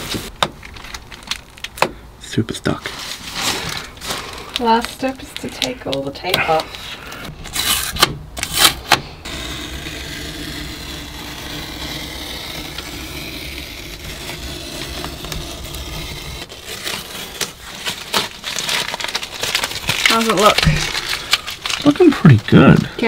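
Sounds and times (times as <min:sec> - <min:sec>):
masking tape peeling: 0:03.0 - 0:22.8.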